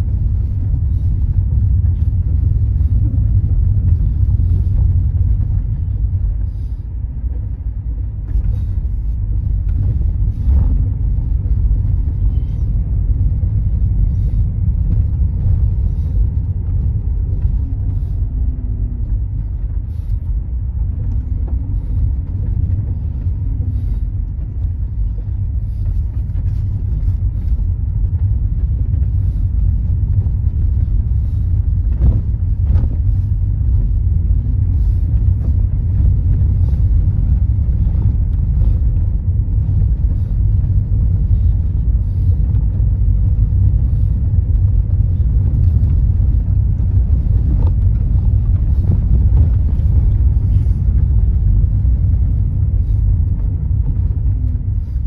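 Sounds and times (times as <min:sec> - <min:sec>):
car driving interior rumble: 0:00.0 - 0:55.0.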